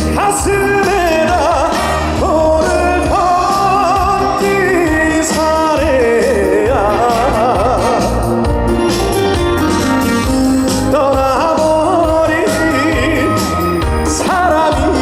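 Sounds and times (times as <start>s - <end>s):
band playing steady beat: 0.0s - 15.0s
man singing with vibrato: 0.0s - 15.0s.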